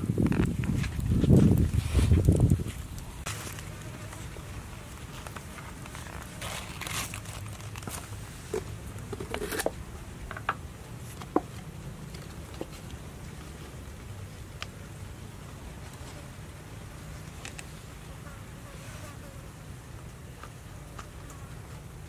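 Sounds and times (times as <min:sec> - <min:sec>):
leaf crinkling and rustling: 0:00.0 - 0:18.1.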